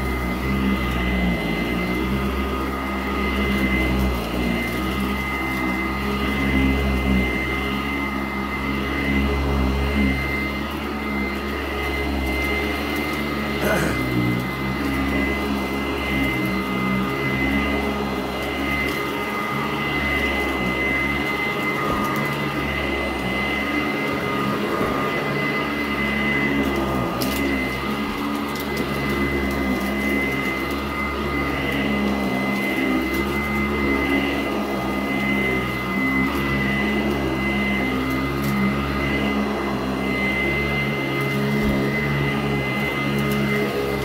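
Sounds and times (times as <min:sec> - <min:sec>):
upright vacuum whining: 0:00.0 - 0:44.0.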